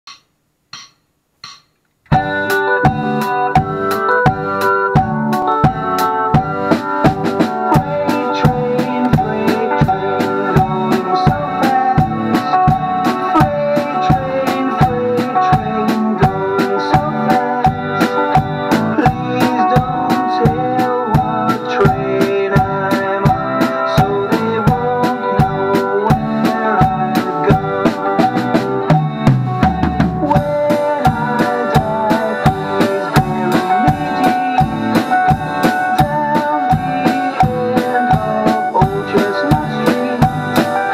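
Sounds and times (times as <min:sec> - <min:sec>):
drum kit beat: 0:00.0 - 0:40.9
keyboard music: 0:02.1 - 0:40.9.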